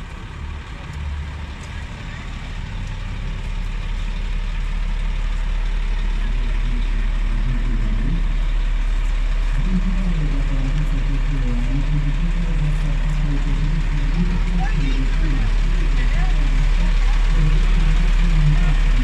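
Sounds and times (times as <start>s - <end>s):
truck engine running: 0.0s - 19.0s
uneven low drone: 0.0s - 19.0s.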